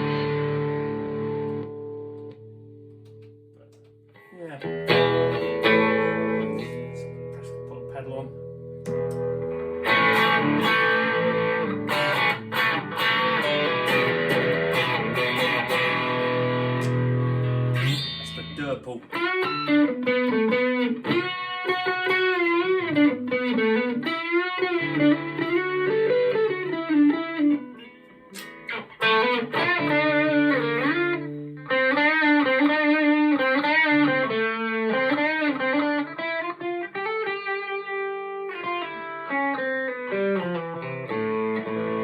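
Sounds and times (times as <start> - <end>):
electric guitar lead playing: 0.0 - 42.0.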